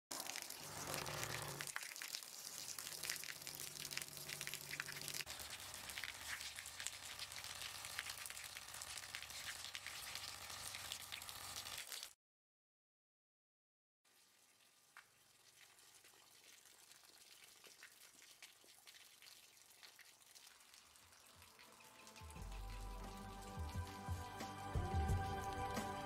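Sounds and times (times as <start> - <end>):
stream of running water splashing: 0.1 - 12.2, 14.1 - 24.4.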